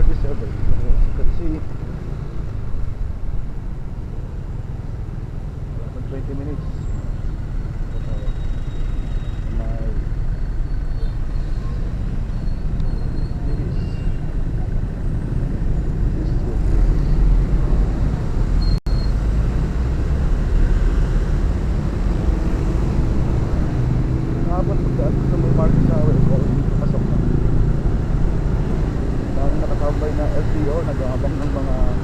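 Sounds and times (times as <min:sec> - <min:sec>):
wind and road noise rumble: 0:00.0 - 0:32.0.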